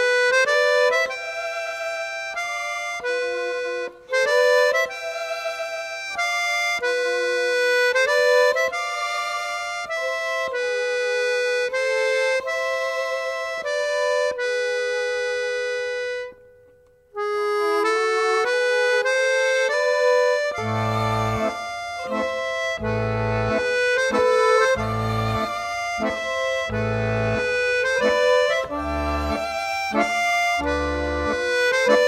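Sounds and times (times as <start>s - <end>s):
instrumental music with held chords: 0.0s - 32.0s.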